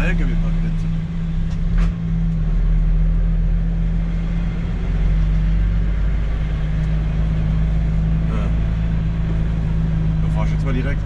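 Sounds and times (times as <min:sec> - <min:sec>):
truck diesel engine humming: 0:00.0 - 0:11.0.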